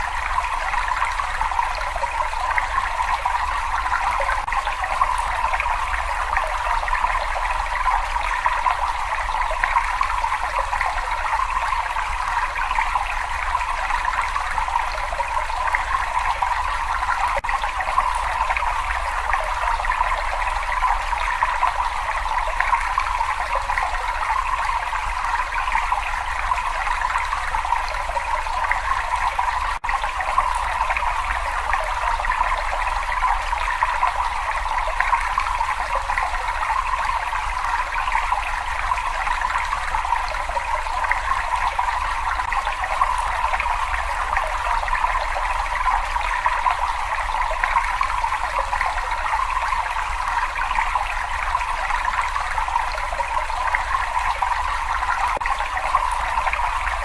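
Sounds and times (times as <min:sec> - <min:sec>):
water running and trickling: 0:00.0 - 0:57.0.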